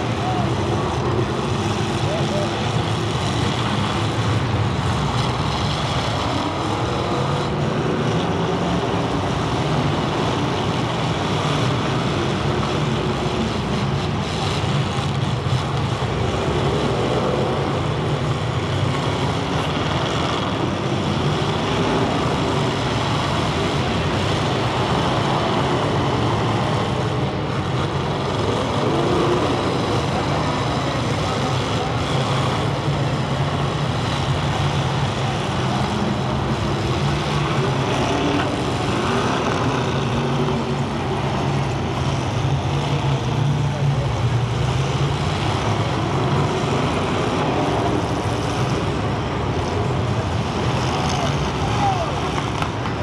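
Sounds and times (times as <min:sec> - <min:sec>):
car engines revving hard: 0:00.0 - 0:53.0.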